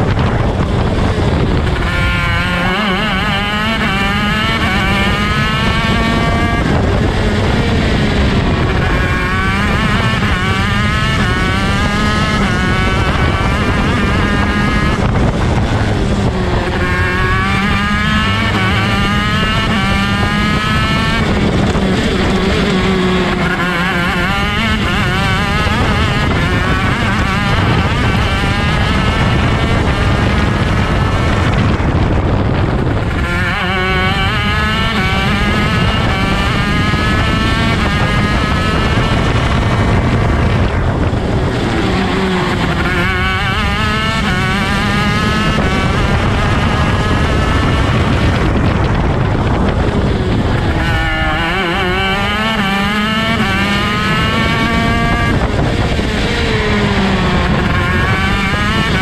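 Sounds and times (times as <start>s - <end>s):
two-stroke kart engine revving: 0.0s - 59.0s.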